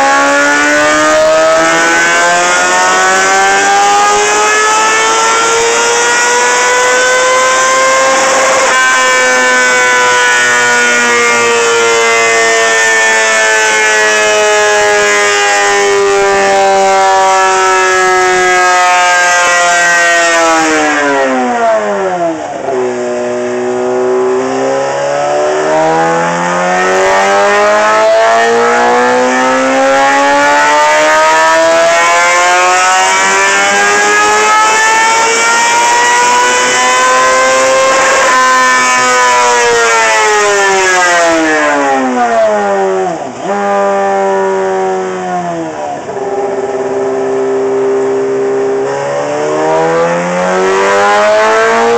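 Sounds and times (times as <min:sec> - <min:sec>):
motorcycle engine revving on dyno: 0:00.0 - 0:51.9.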